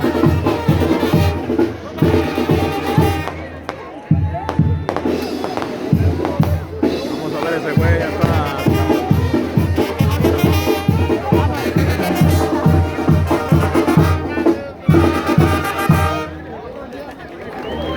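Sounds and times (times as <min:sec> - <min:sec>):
steady drumbeat: 0:00.0 - 0:16.3
brass band music with trumpets: 0:00.0 - 0:16.8.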